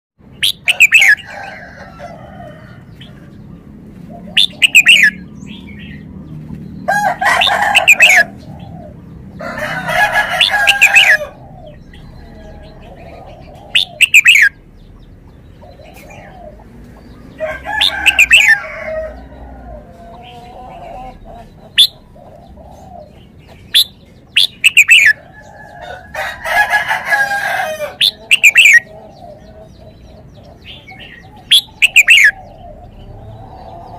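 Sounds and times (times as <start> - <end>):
soft bird calls: 0.2 - 33.9.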